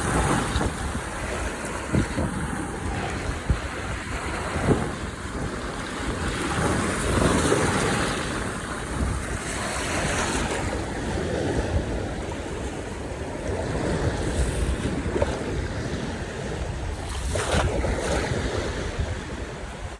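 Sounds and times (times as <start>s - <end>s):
surf washing onto shore: 0.0s - 19.9s
wind buffeting microphone: 0.0s - 19.9s.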